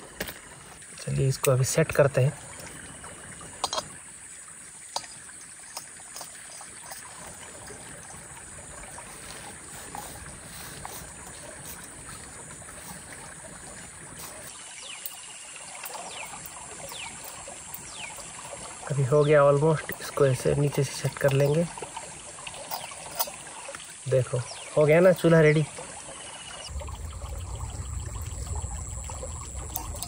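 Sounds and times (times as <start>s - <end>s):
creek rushing: 0.0s - 14.6s, 15.6s - 30.0s.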